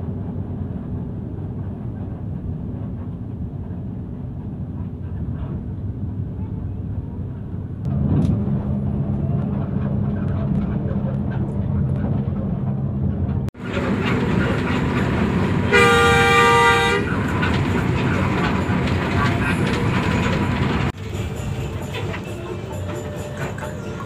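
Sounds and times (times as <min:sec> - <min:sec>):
bus engine drone: 0:00.0 - 0:24.0
road roar: 0:00.0 - 0:24.0.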